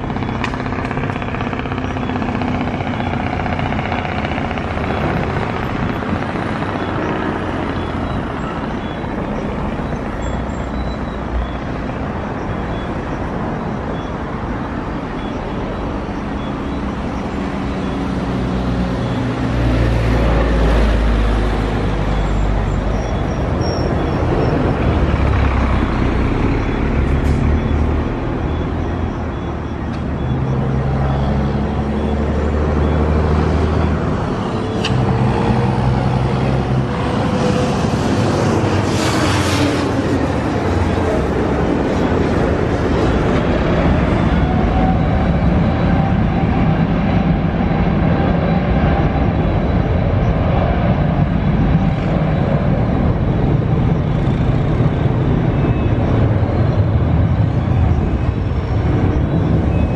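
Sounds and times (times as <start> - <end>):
jet engines rumbling and roaring: 0.0 - 59.9.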